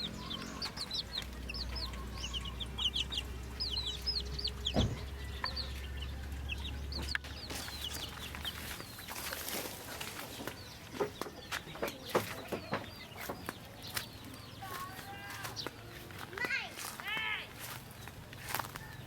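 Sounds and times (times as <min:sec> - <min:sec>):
chickens calling: 0:00.0 - 0:19.0.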